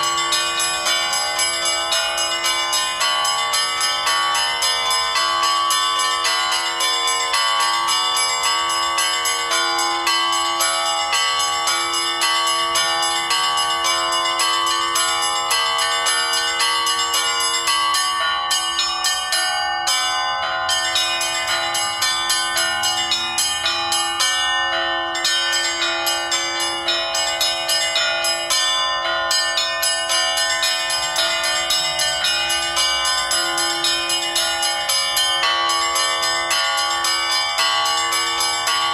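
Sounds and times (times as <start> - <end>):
bells ringing in quick runs: 0.0 - 38.9.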